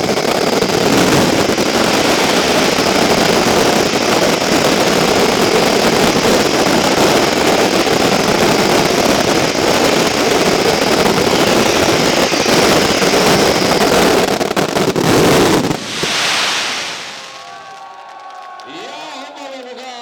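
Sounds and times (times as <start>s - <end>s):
fireworks whistle: 0.0s - 19.2s
fireworks bangs and crackle: 0.0s - 20.0s.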